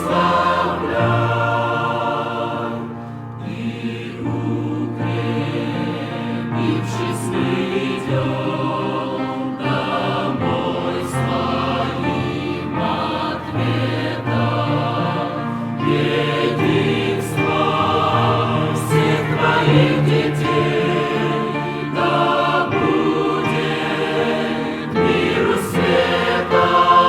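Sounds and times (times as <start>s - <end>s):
choir singing a hymn: 0.0s - 27.0s.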